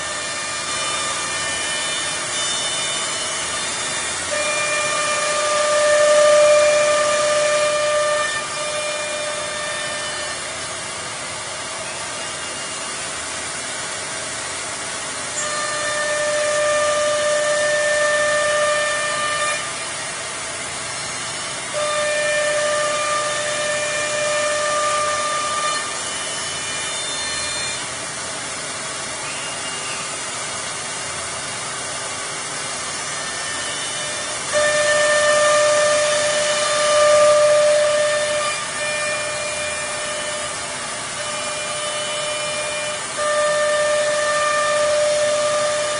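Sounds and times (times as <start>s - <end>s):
high spindle whine: 0.0s - 45.9s
rushing machine noise: 0.0s - 45.9s.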